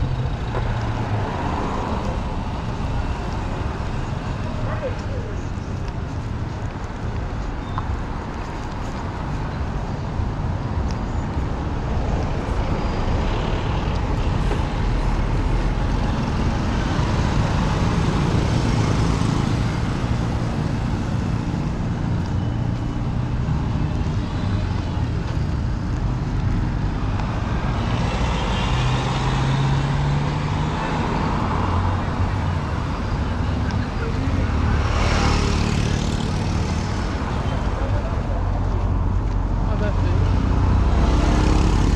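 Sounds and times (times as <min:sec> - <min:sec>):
passing vehicle engines: 0:00.0 - 0:41.9
road noise: 0:00.0 - 0:41.9.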